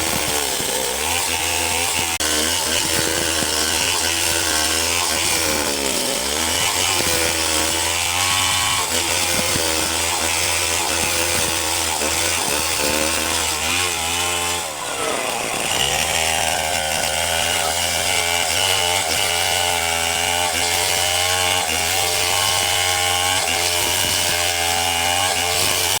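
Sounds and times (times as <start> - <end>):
wood cutting whine: 0.0 - 26.0.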